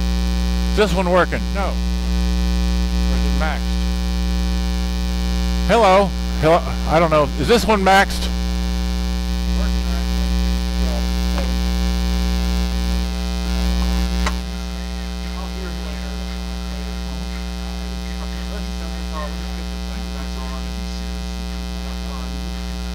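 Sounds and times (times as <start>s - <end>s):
mains hum: 0.0s - 22.9s.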